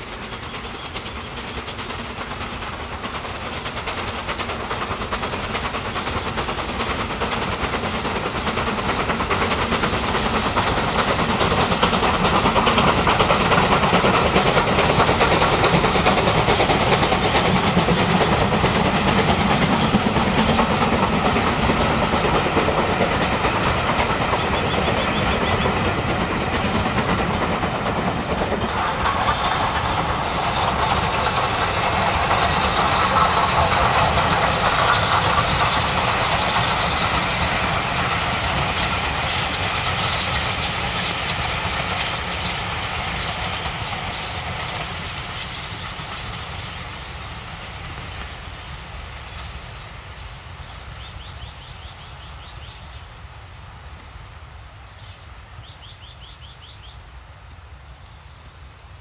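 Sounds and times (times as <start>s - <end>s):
steam hiss: 0.0s - 55.7s
train wheel clatter: 0.0s - 57.2s
steam locomotive chuffing: 0.0s - 59.0s.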